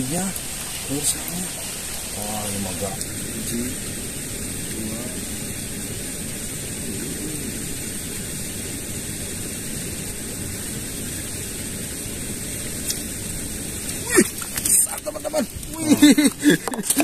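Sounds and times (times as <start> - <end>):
thin high hiss: 0.0 - 17.0.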